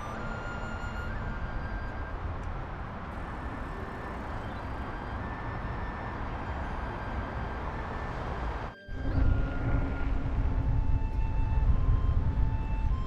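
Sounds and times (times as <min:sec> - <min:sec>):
distant road traffic rumble: 0:00.0 - 0:13.0.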